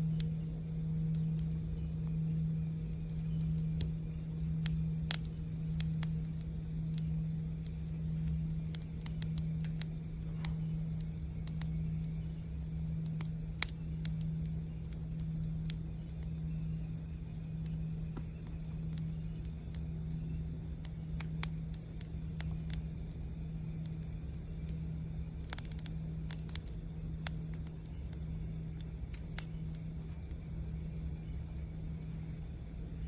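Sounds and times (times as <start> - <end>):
campfire crackling and popping: 0.0 - 33.0
singing bowl hum: 0.0 - 33.0.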